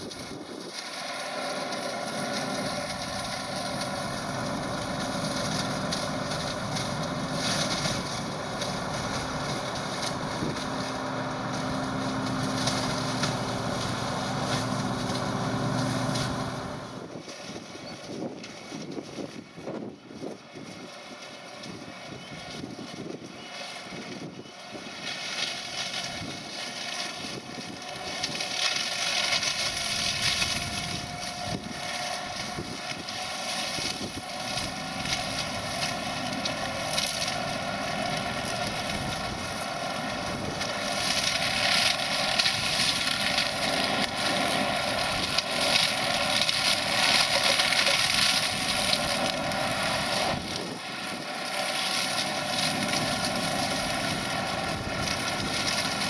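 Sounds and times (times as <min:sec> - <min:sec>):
hedge-cutter whirring and chopping: 0:00.0 - 0:56.0
tractor engine under load: 0:00.0 - 0:56.0.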